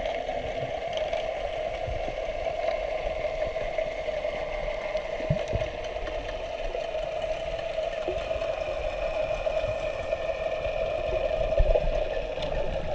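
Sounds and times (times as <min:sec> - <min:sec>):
underwater mechanical drone: 0:00.0 - 0:12.9.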